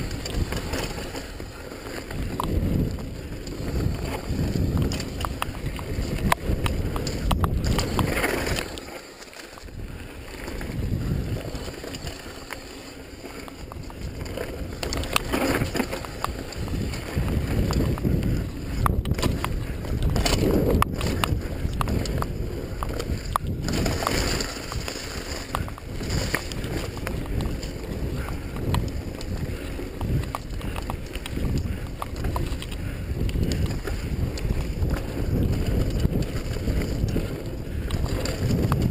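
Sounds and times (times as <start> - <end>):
wind buffeting microphone: 0.0 - 8.8, 9.6 - 12.4, 13.1 - 38.9
bike clicking and rattling: 0.0 - 38.9
tyre roar on dirt: 0.0 - 38.9.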